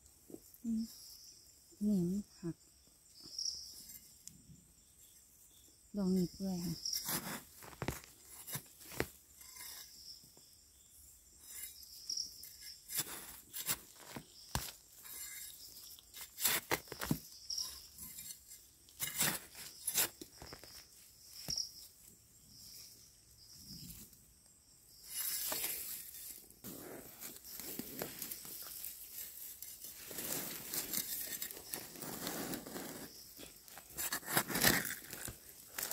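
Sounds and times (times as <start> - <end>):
insects chirping: 0.0 - 35.9.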